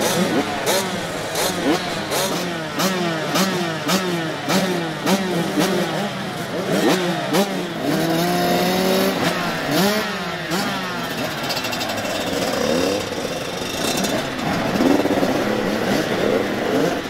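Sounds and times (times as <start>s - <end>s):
motocross motorcycle engines revving: 0.0s - 17.0s.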